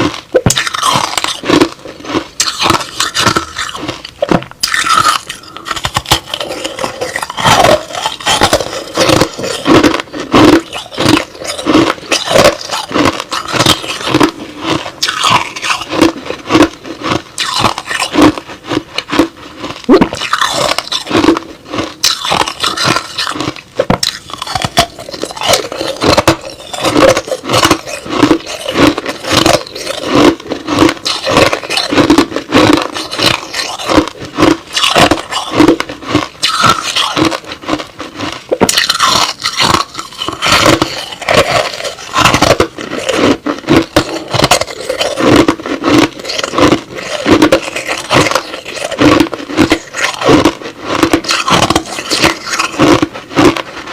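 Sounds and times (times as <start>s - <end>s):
chewing crushed ice: 0.0s - 53.9s.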